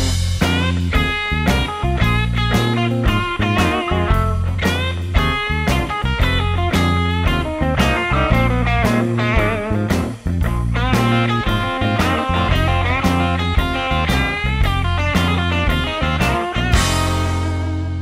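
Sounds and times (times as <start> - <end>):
bass: 0.0 - 18.0
guitar bending notes: 0.0 - 18.0
steady drum beat: 0.0 - 18.0.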